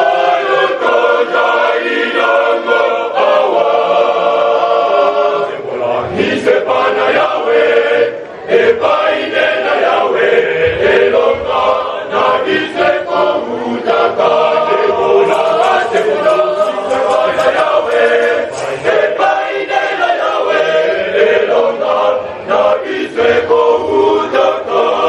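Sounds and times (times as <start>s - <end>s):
choir of young men singing: 0.0s - 25.0s.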